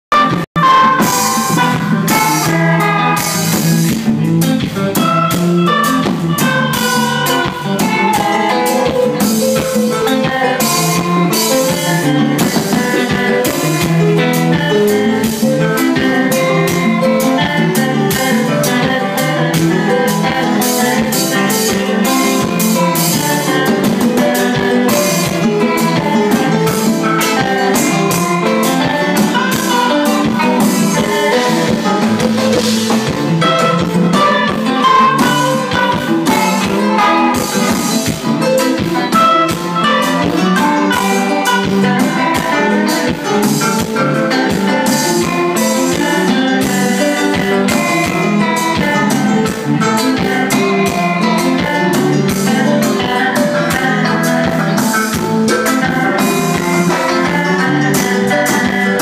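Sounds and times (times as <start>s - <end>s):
electric guitar: 0.0s - 59.0s
live band playing: 0.0s - 59.0s.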